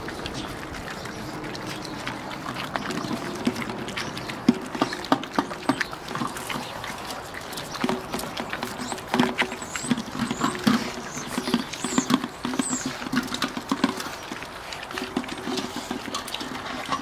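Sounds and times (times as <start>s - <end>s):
puppies smacking and chewing: 0.0s - 17.0s
teeth clicking on metal bowl: 0.0s - 17.0s.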